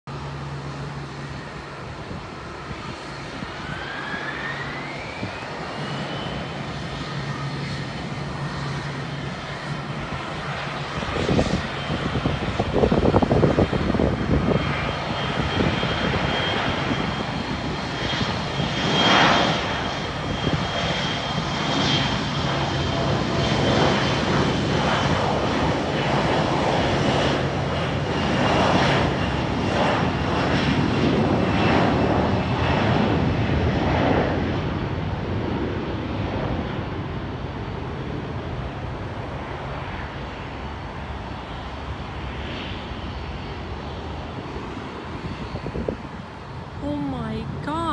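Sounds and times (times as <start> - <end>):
jet engines roaring at takeoff: 0.1 - 46.8
jet engine whine: 0.1 - 47.9.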